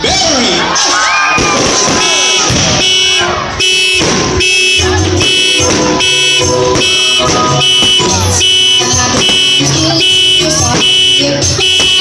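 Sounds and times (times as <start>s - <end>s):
fireworks banging: 1.4s - 12.0s.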